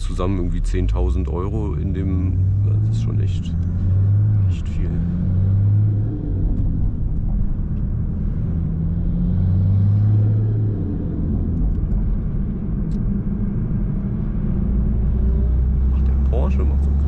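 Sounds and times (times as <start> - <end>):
car engine and exhaust drone: 0.0 - 17.0
tyre and road rumble: 0.0 - 17.0.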